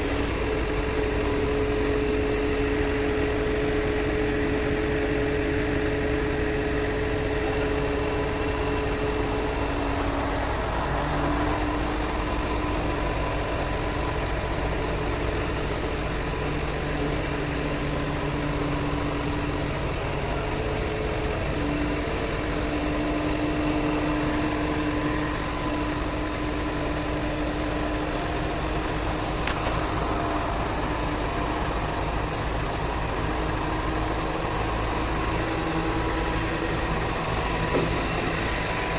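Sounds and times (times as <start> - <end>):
truck crane diesel engine running: 0.0 - 38.9.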